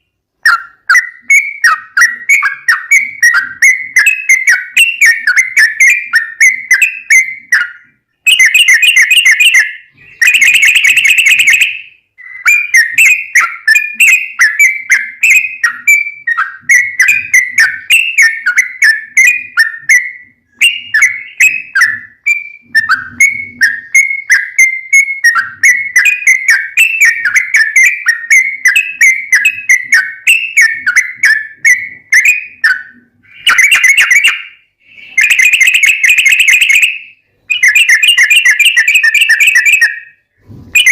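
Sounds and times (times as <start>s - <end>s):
bird singing bubbly whistles: 0.5s - 40.9s.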